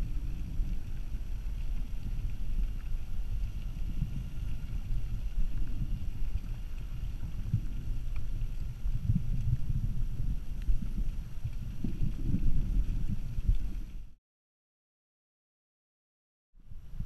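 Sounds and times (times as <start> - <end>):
faint clicks: 0.0 - 14.0
muffled underwater rumble: 0.0 - 14.2, 16.6 - 17.0.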